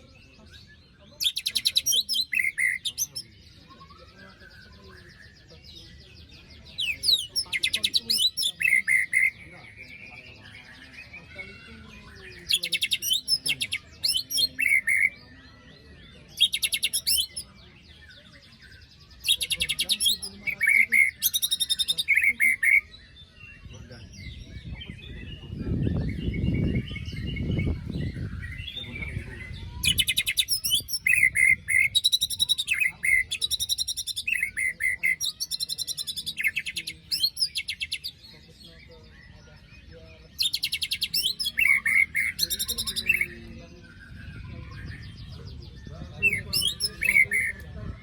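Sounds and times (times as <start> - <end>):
songbird rasping trills and whistles: 0.0 - 48.0.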